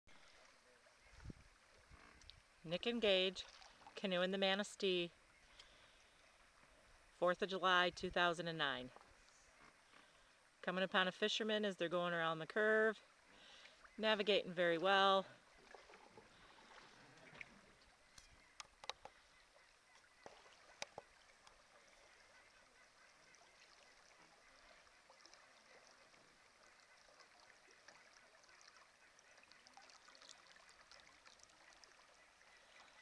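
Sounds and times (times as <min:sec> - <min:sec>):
faint hiss of river water: 0:00.1 - 0:33.0.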